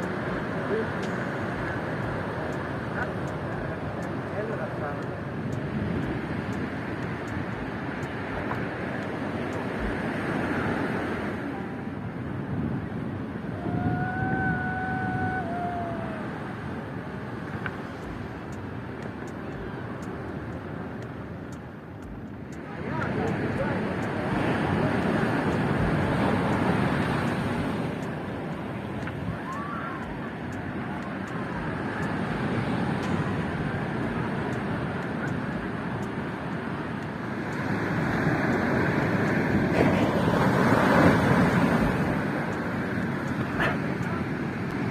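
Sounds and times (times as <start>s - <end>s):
ocean surf washing: 0.0s - 44.9s
outdoor background rush: 0.0s - 44.9s.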